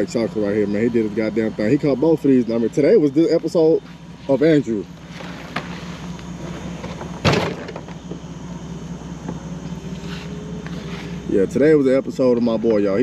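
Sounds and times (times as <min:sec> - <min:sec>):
idling motor hum: 0:00.0 - 0:13.0.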